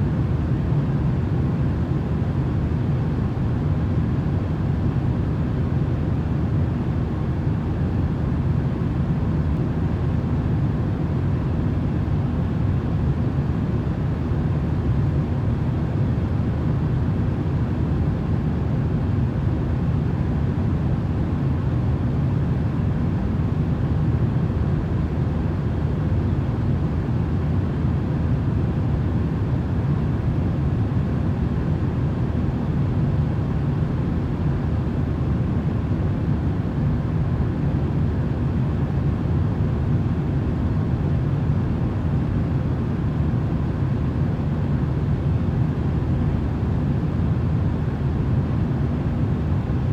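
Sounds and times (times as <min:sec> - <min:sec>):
low rumbling white noise: 0:00.0 - 0:49.9.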